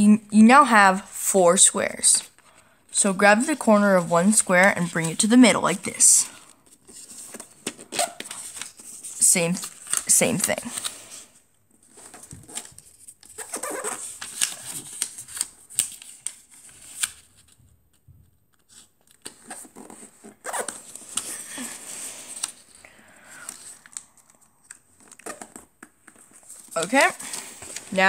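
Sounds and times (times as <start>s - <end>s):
paper rustling and creasing: 3.3s - 28.0s.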